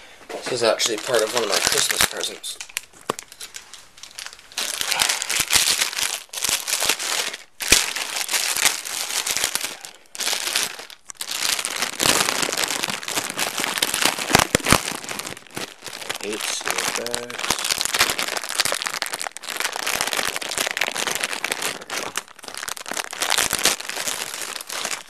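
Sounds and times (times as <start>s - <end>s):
plastic wrap crinkling: 0.3s - 25.0s.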